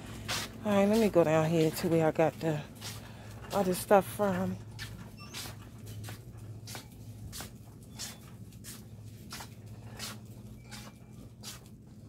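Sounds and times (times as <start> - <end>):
footsteps walking: 0.0 - 12.0
steady low hum: 0.0 - 12.0.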